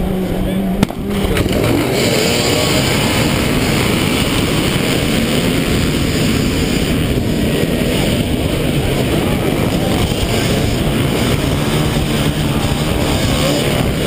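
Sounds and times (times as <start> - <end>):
electric drivetrain whine: 0.0 - 14.0
knobby tyres on dirt: 0.0 - 14.0
wind rushing: 0.8 - 14.0.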